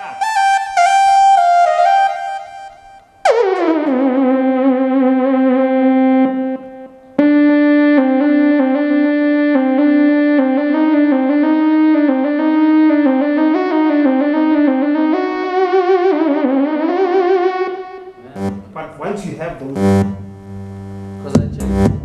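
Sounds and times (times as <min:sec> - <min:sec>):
synthesizer lead melody: 0:00.0 - 0:22.0.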